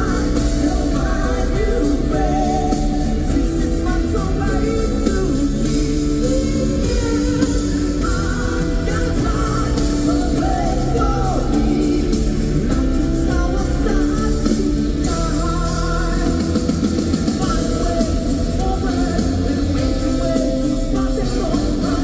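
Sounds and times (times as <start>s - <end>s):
live funk-rock band: 0.0s - 22.0s
person singing: 0.0s - 22.0s.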